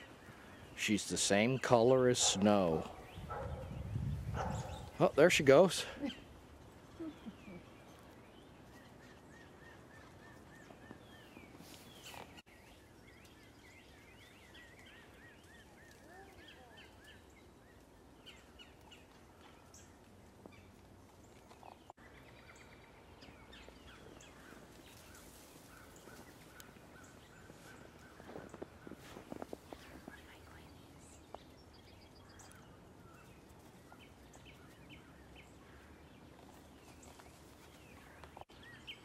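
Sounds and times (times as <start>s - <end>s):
faint songbirds calling: 0.0s - 39.0s.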